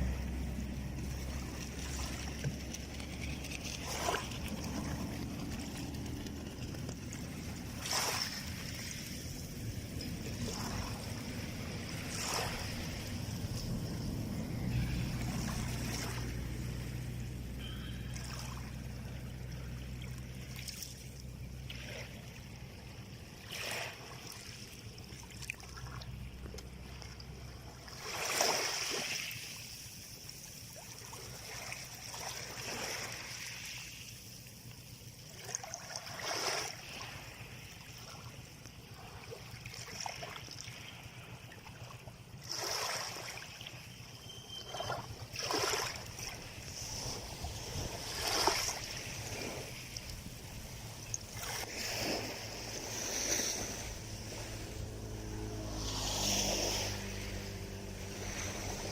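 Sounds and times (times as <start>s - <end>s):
small waves breaking: 0.0s - 58.9s.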